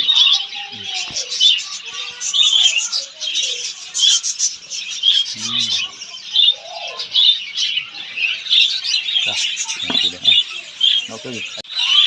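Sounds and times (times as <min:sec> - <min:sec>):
cage birds chattering: 0:00.0 - 0:12.0.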